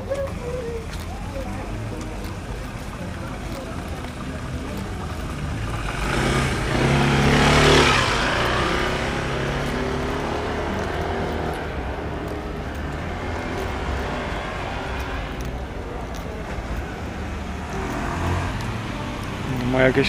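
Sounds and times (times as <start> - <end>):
motor scooter passing by: 3.3 - 16.2, 16.8 - 20.0.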